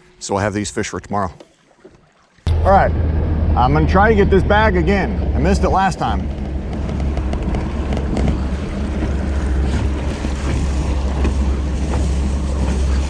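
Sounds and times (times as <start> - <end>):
water around boat: 0.0 - 13.0
wind rumbling on microphone: 2.5 - 13.0.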